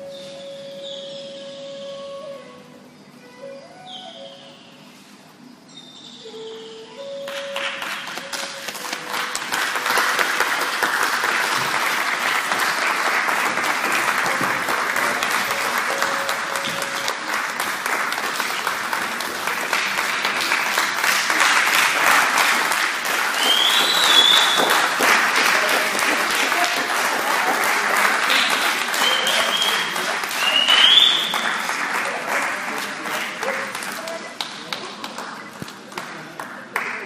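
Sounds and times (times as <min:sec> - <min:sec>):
audience applauding: 0:07.1 - 0:37.0.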